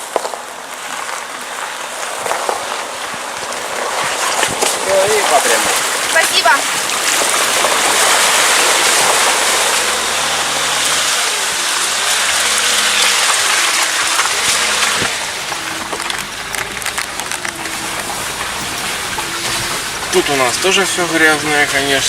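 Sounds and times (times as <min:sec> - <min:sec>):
car engine: 0:00.0 - 0:22.0
tyres spraying water and mud: 0:00.0 - 0:22.0.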